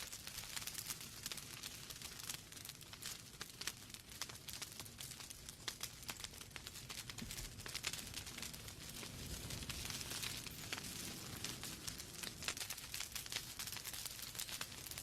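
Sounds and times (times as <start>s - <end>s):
flames hissing and rumbling: 0.0s - 15.0s
logs crackling and popping: 0.0s - 15.0s.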